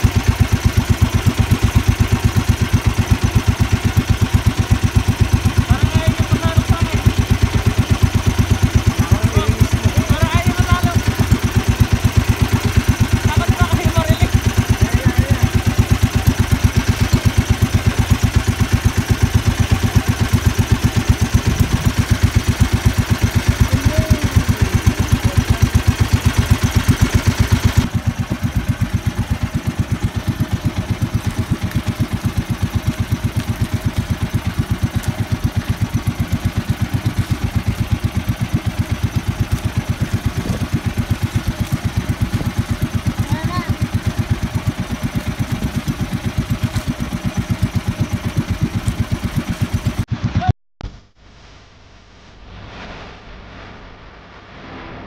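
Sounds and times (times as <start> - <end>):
boat engine running: 0.0 - 51.1.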